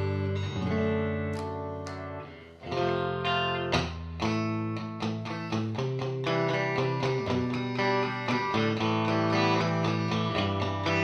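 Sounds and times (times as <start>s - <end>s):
clean electric guitar playing: 0.0s - 11.0s.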